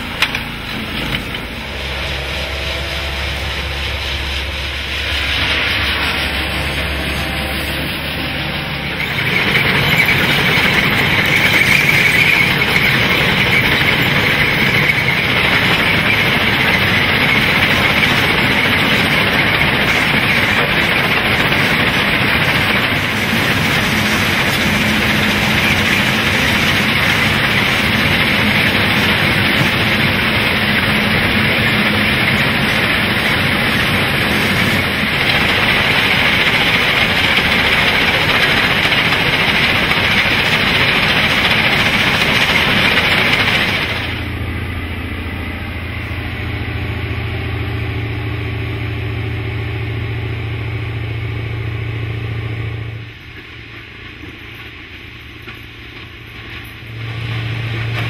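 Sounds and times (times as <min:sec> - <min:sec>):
diesel engine humming: 0:00.0 - 0:58.0
heavy track machinery noise: 0:00.0 - 0:58.0.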